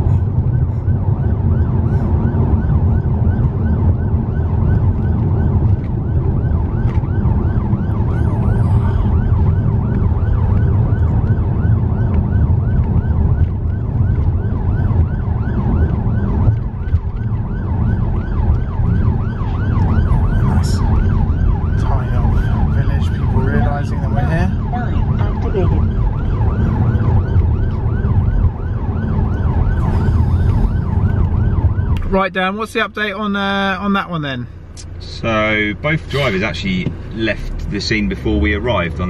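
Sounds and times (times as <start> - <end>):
police siren yelp: 0.0 - 32.3
engine and tyre rumble: 0.0 - 39.0.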